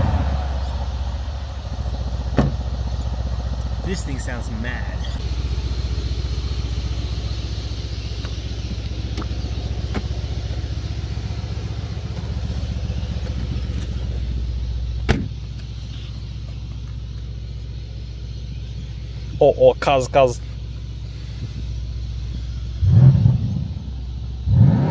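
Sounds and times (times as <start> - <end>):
car engine drone from cabin: 0.0 - 24.9.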